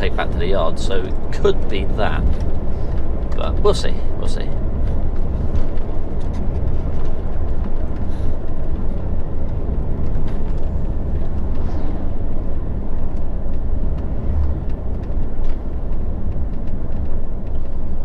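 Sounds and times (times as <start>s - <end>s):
engine and road rumble in cab: 0.0s - 18.0s.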